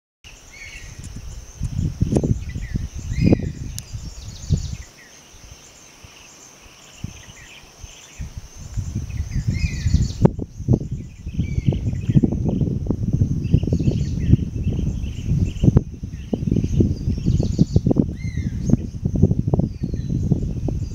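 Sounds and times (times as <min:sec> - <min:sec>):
high-pitched insect drone: 0:00.3 - 0:20.9
low rumbling gusts: 0:00.4 - 0:06.2, 0:06.8 - 0:20.9.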